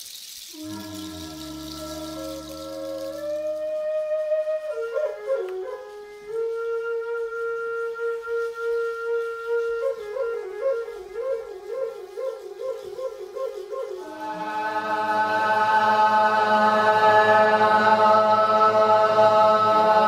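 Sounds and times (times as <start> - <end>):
solo flute melody: 0.5 - 17.6.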